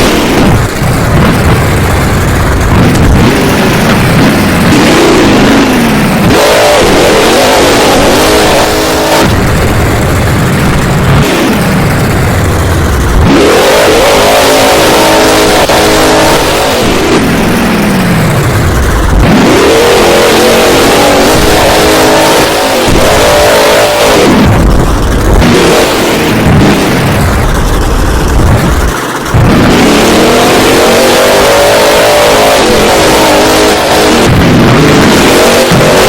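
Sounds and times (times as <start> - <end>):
truck engine revving hard: 0.0 - 36.0.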